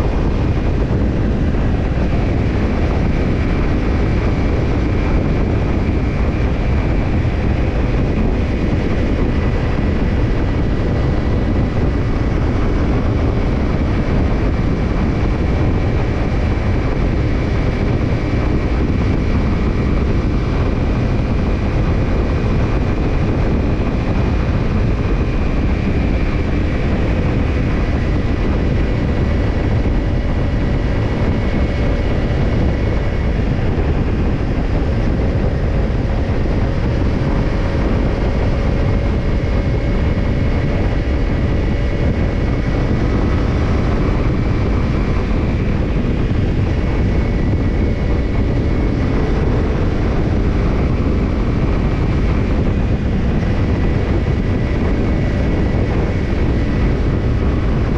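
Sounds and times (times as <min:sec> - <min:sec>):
motorcycle engine cruising: 0:00.0 - 0:57.9
road and wind rush: 0:00.0 - 0:57.9.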